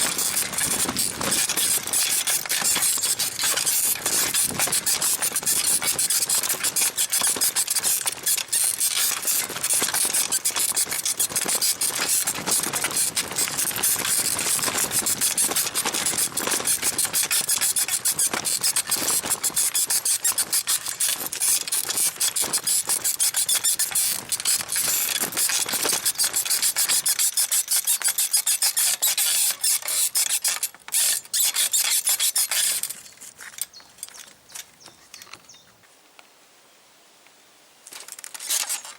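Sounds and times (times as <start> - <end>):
bicycle saddle springs squeaking: 0.0 - 35.6.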